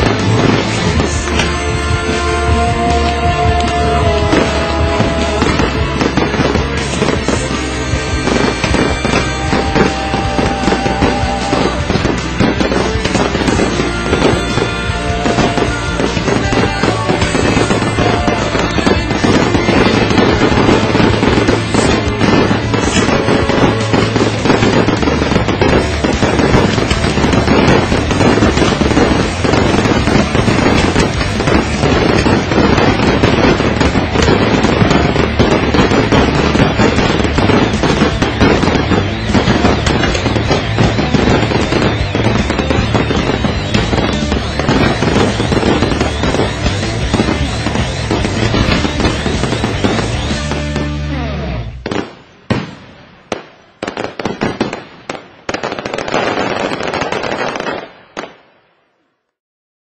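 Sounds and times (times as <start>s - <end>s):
fireworks bangs and crackle: 0.0s - 58.8s.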